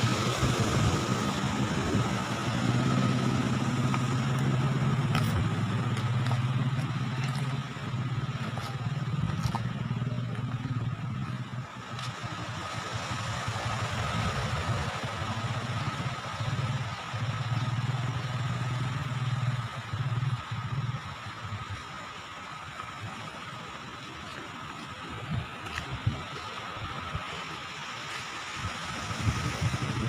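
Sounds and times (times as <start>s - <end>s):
vehicle engine running: 0.0s - 30.0s
wind and road noise: 0.0s - 30.0s.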